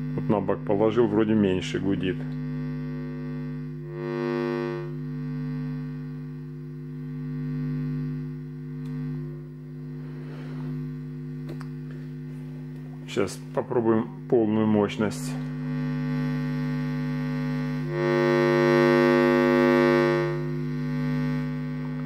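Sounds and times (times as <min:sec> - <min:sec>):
low mains hum from speakers: 0:00.0 - 0:22.0.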